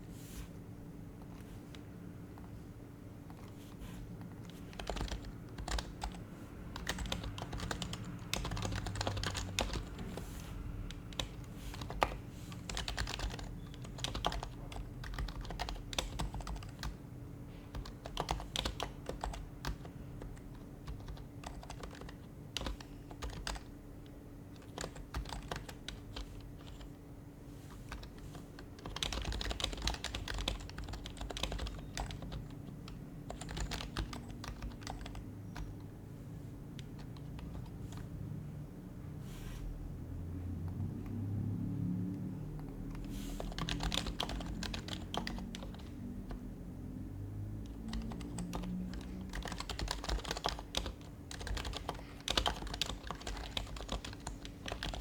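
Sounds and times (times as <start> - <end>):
soft muted keyboard typing: 0.0 - 38.4, 40.4 - 41.4, 42.0 - 46.8, 47.4 - 55.0
faint steady hum: 0.0 - 55.0.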